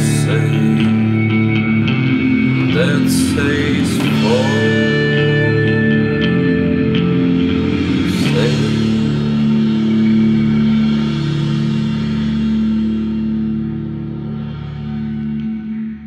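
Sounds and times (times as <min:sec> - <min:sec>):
held guitar and bass chord: 0:00.0 - 0:16.0
rock band music: 0:00.0 - 0:16.0.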